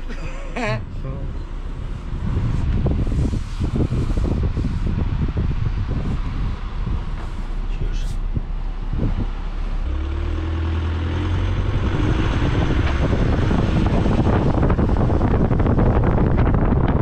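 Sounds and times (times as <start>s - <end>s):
car engine hum: 0.0s - 17.0s
road and wind noise: 0.0s - 17.0s.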